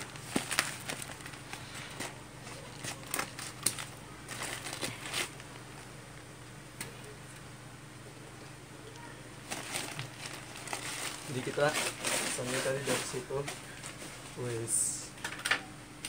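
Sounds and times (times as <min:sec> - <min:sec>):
paper and tape crackling: 0:00.0 - 0:07.1, 0:08.9 - 0:14.9.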